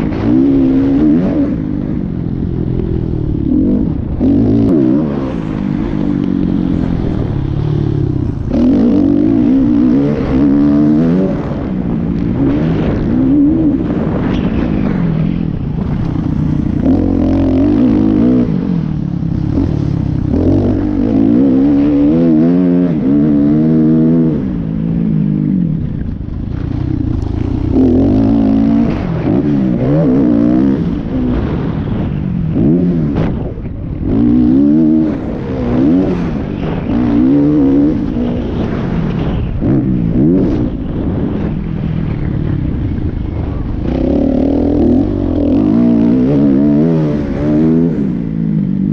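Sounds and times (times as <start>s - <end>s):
motocross motorcycle engines revving: 0.0s - 48.9s.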